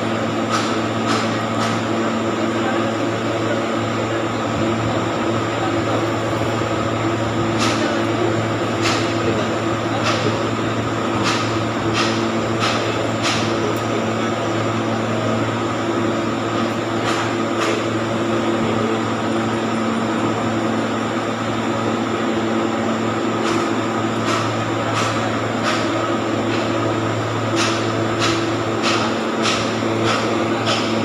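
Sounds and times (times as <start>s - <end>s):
cooling fans: 0.0s - 31.0s.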